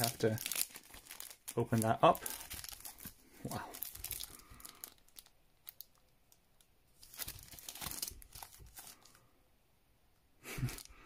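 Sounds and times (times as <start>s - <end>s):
packaging crinkling and tearing: 0.0s - 9.2s.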